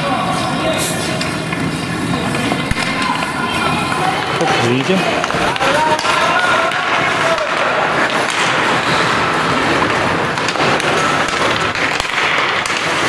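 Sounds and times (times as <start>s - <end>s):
hockey sticks and puck clacking: 0.0s - 13.0s
skate blades scraping ice: 0.0s - 13.0s.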